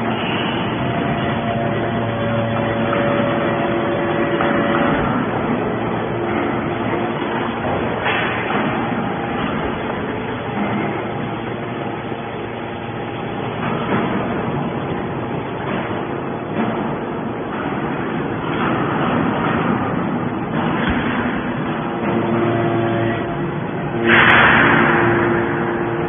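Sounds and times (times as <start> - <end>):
scrap metal baler drone: 0.0 - 26.0.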